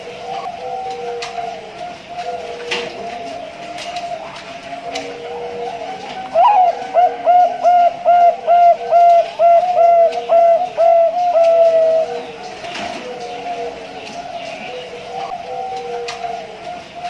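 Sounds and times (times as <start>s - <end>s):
dove cooing song: 0.0s - 17.0s
faint cooing of other doves: 0.0s - 17.0s.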